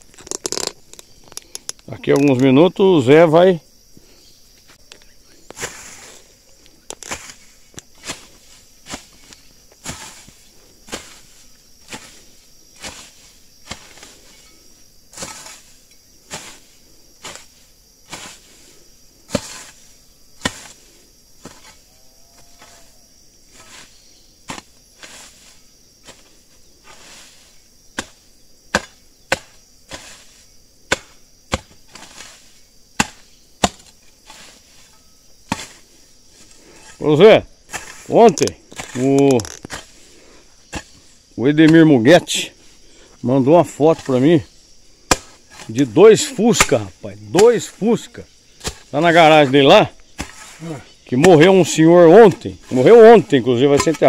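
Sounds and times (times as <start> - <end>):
garden hoe chopping soil: 5.5 - 6.2, 6.9 - 18.7, 19.3 - 42.6, 43.6 - 54.0.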